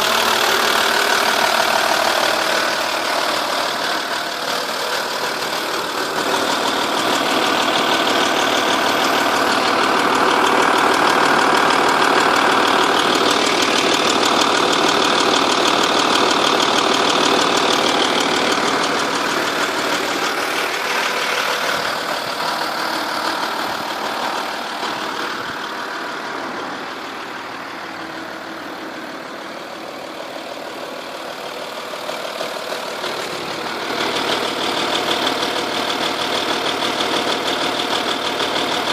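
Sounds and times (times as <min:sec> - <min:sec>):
diesel engine idling: 0:00.0 - 0:38.9
rapid engine ticking: 0:00.0 - 0:38.9.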